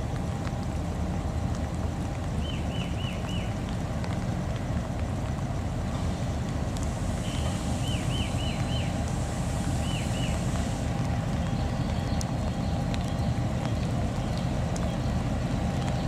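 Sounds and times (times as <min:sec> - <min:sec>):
locomotive engine rumbling: 0:00.0 - 0:16.0.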